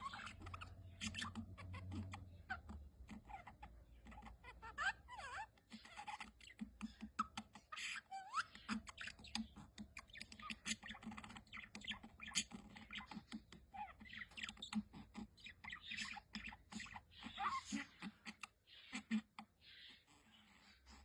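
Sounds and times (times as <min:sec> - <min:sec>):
budgerigar chattering: 0:00.0 - 0:21.0.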